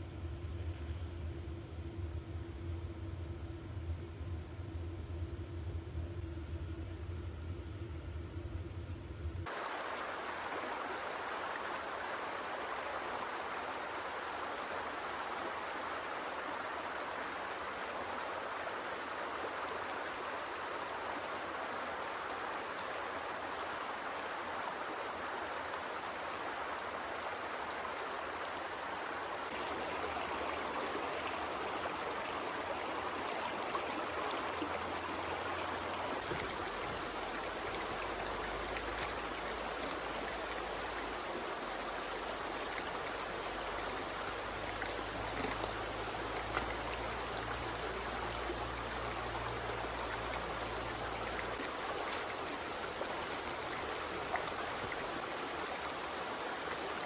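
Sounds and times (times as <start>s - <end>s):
flowing water rushing: 9.5s - 57.0s.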